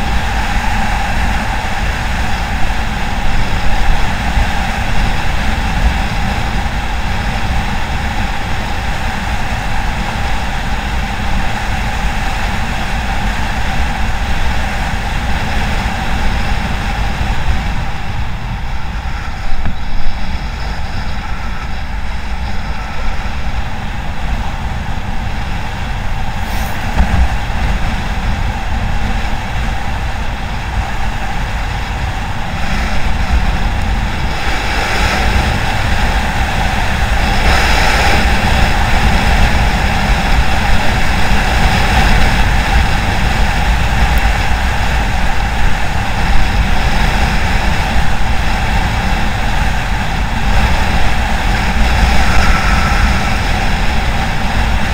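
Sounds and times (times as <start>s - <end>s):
road noise: 0.0s - 54.9s
steady engine tone: 0.0s - 54.9s
wind rushing over microphone: 0.0s - 54.9s.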